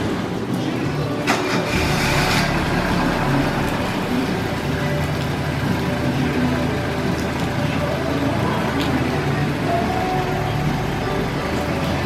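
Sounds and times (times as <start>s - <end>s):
car engine running: 1.3s - 12.0s.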